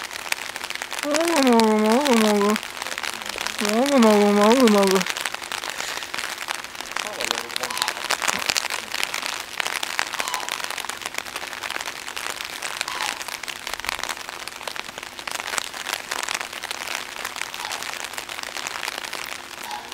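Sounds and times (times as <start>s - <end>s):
rain pattering: 0.0s - 19.9s.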